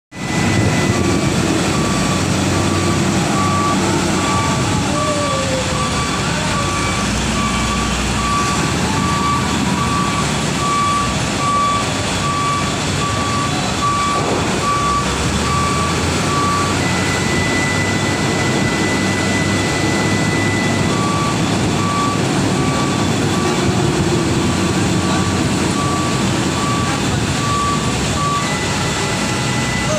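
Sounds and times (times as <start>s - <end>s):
heavy diesel machinery running: 0.1s - 29.9s
reversing alarm beeping: 0.1s - 29.9s.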